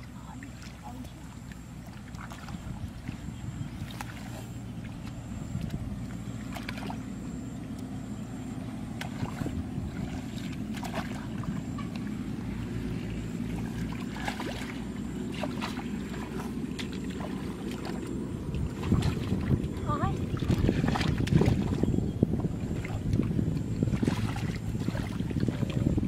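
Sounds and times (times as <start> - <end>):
muddy water sloshing and splashing: 0.0 - 26.0
steady low rumble: 0.0 - 26.0.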